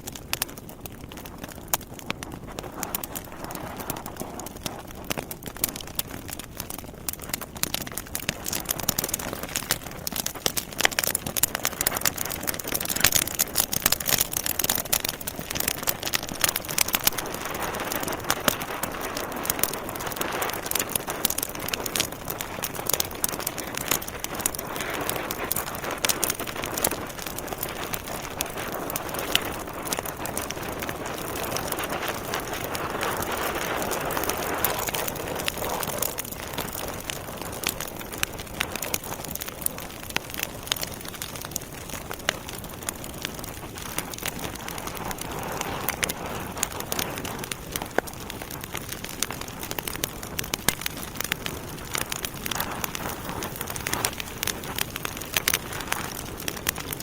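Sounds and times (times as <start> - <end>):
wood fire crackling and popping: 0.0 - 57.0
fire hissing: 0.2 - 57.0.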